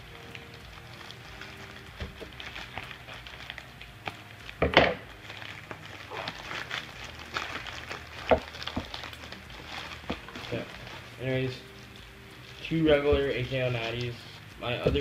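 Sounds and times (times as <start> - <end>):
envelope crinkling and rustling: 0.0 - 15.0.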